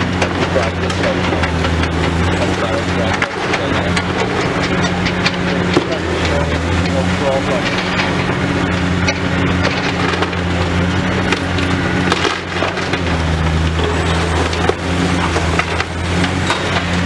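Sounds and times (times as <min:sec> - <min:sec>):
excavator diesel engine running: 0:00.0 - 0:17.0
material crackling and crunching: 0:00.0 - 0:17.0.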